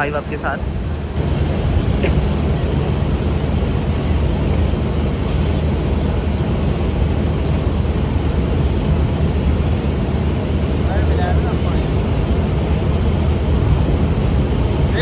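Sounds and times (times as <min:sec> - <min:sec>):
locomotive engine droning: 0:00.0 - 0:15.0.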